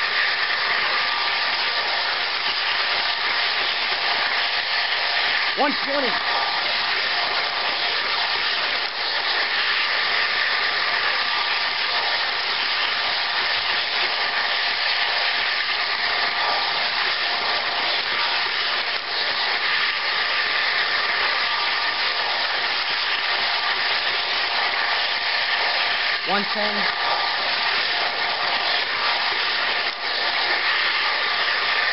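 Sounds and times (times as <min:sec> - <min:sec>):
model train wheels whirring on rails: 0:00.0 - 0:31.9.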